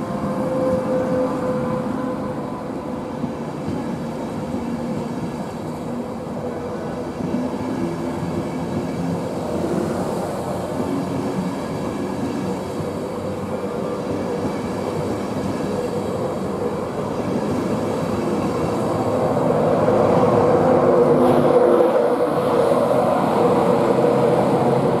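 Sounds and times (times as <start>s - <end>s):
electric locomotive hum: 0.0s - 25.0s
train coaches rolling on rails: 0.0s - 25.0s.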